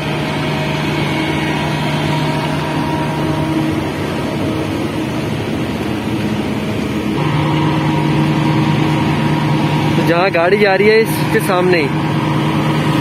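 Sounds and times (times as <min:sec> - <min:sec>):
vehicle engine hum and road noise: 0:00.0 - 0:13.0.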